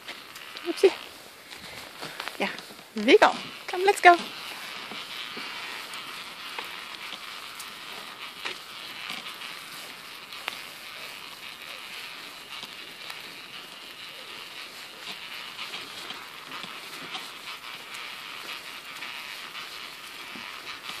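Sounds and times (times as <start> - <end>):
pram wheels rolling on a path: 0.0 - 21.0.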